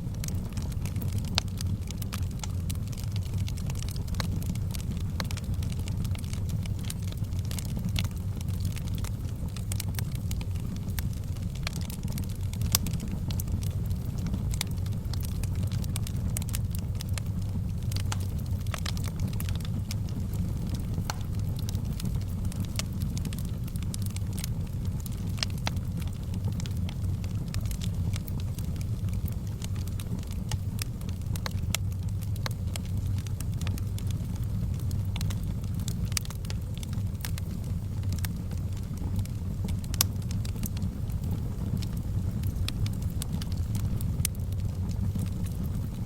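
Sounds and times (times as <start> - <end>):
low rumble of flames: 0.0 - 46.0
sharp snaps and pops of fire: 0.0 - 46.0.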